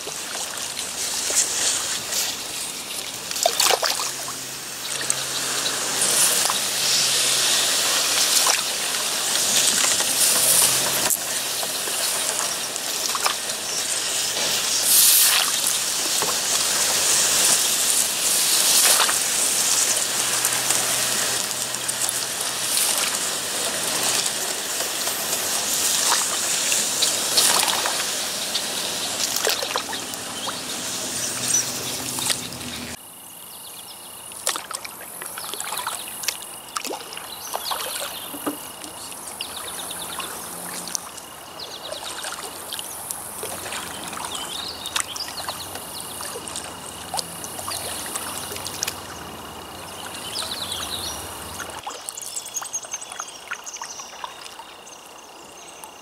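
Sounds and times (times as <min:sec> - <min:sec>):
water splashing around paddle: 0:00.0 - 0:33.0, 0:34.3 - 0:54.6
birds calling: 0:01.2 - 0:34.4, 0:35.2 - 0:55.7.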